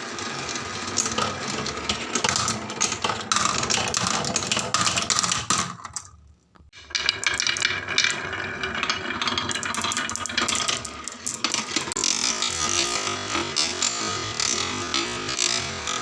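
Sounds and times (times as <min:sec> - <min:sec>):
marbles clattering down wooden tracks: 0:00.0 - 0:16.0.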